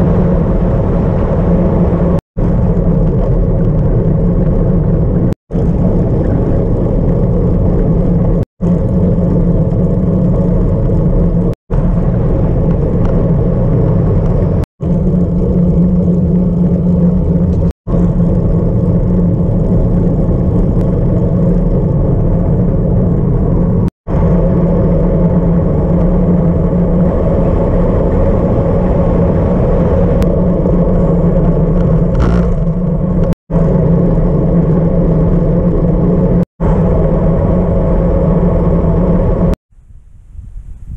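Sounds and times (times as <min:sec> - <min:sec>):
bicycle road noise on asphalt: 0:00.0 - 0:40.9
wind rush: 0:00.0 - 0:40.9.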